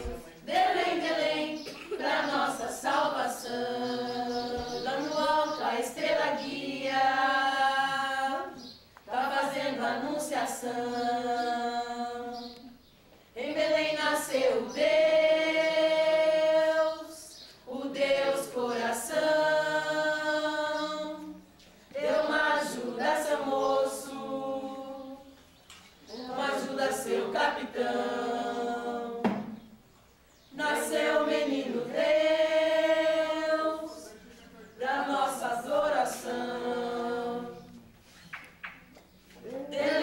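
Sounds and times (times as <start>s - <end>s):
group chanting in harmony: 0.0s - 12.8s, 13.4s - 25.4s, 26.0s - 29.7s, 30.5s - 37.9s, 39.4s - 40.0s.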